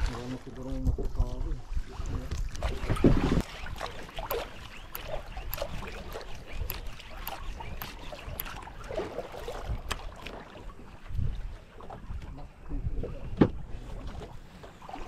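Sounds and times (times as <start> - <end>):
water lapping against boat hull: 0.0 - 15.0
wind on microphone: 0.0 - 15.0.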